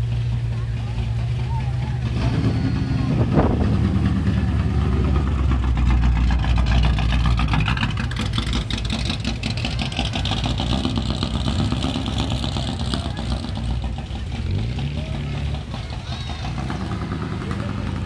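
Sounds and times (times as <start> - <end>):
car engine rumbling past: 0.0 - 18.0.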